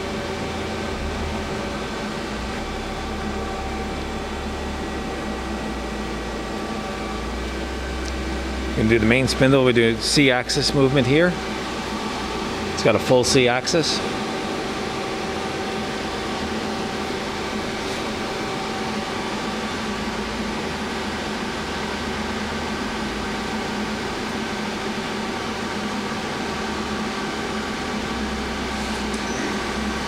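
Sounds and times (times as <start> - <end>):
lathe mechanical hum: 0.0 - 30.0.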